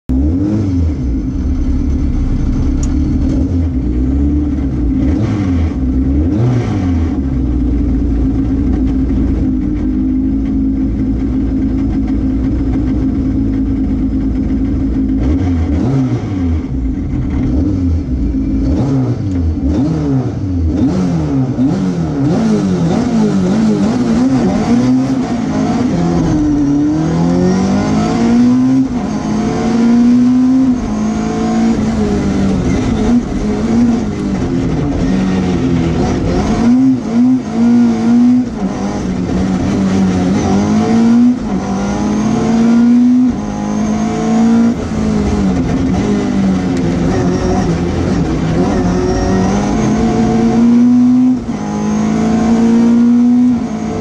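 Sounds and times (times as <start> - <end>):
rally car engine revving: 0.1 - 54.0.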